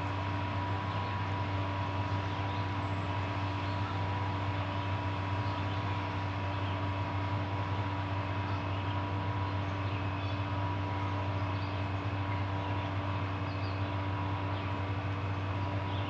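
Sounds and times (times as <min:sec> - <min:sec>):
engine and road hum in cabin: 0:00.0 - 0:16.0.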